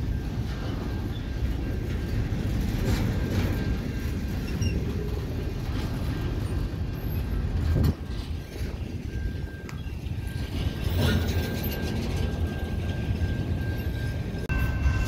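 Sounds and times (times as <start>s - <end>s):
train wheels rumbling on rails: 0.0s - 15.0s
wheel clacks: 0.0s - 15.0s.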